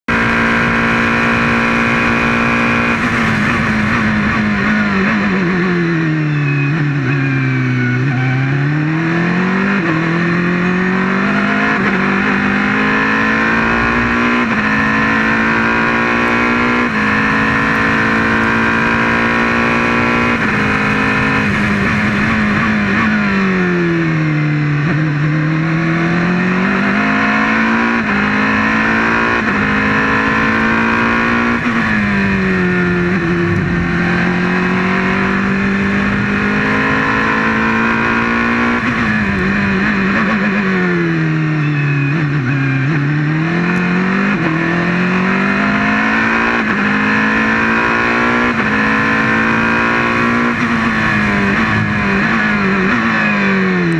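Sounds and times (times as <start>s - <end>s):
race car engine at high revs: 0.0s - 53.9s.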